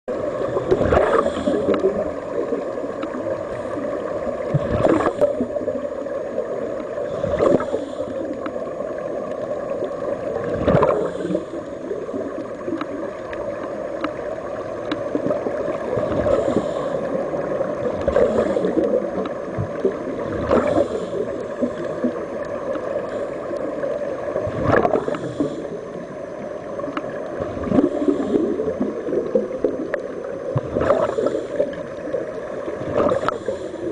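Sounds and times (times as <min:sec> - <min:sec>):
air bubbling from diving helmet: 0:00.1 - 0:33.9
underwater hum and gurgle: 0:00.1 - 0:33.9.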